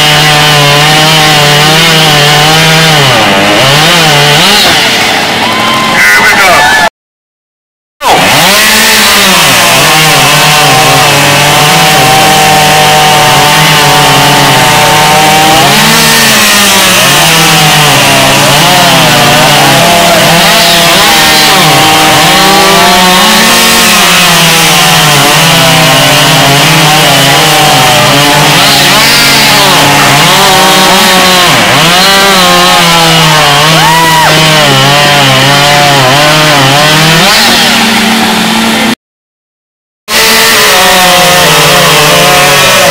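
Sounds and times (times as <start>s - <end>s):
chainsaw cutting wood: 0.0s - 5.6s, 8.0s - 39.0s, 40.1s - 42.9s.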